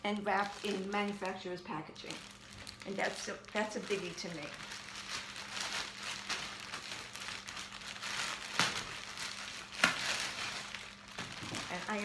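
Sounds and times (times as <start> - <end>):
plastic bag crinkling: 0.0 - 12.0
sharp plastic crackles: 0.0 - 12.0.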